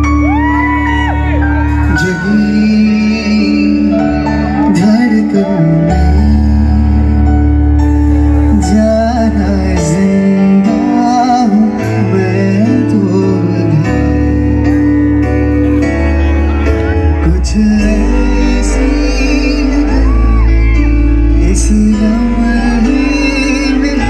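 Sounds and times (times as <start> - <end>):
man singing into microphone: 0.0 - 15.0, 16.2 - 24.0
bass: 0.0 - 24.0
electric guitar: 0.0 - 24.0.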